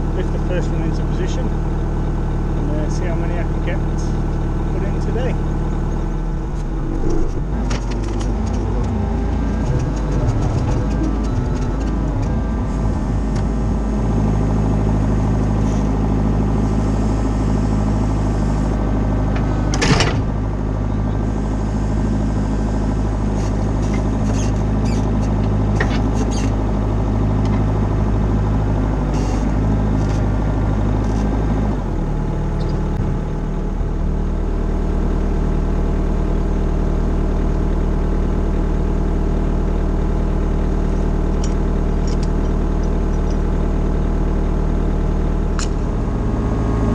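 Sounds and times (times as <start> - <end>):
machine engine running: 0.0 - 33.9, 40.0 - 46.9.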